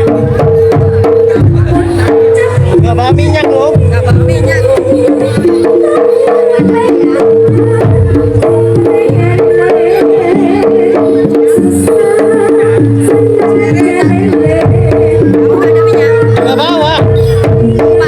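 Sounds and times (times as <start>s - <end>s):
fast hand drum strokes: 0.0s - 18.0s.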